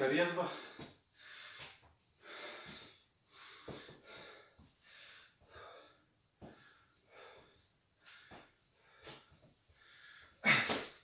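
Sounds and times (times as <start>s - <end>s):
man breathing hard: 0.4s - 11.0s.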